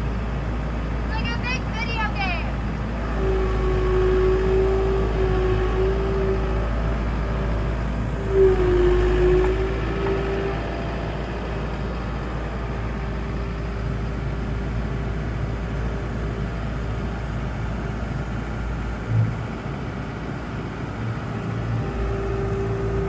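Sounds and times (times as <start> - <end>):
diesel engine whine and rumble: 0.0 - 23.0.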